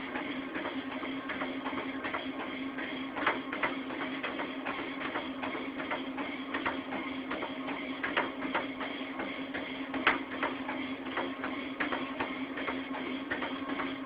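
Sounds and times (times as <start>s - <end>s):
footfalls on treadmill belt: 0.0s - 14.0s
treadmill motor hum: 0.0s - 14.0s.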